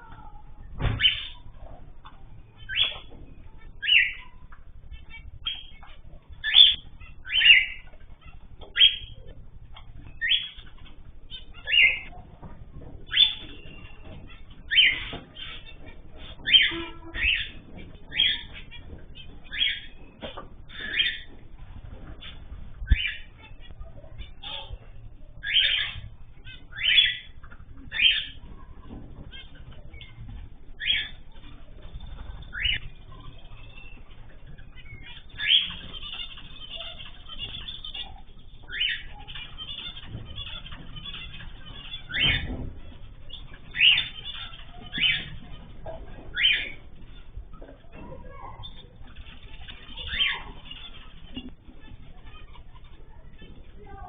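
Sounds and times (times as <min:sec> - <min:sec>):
faint bird chirps: 0:00.0 - 0:54.0.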